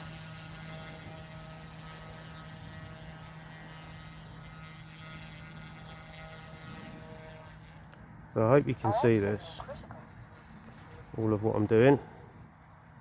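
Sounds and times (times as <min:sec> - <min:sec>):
rc helicopter rotors humming: 0:00.0 - 0:13.0.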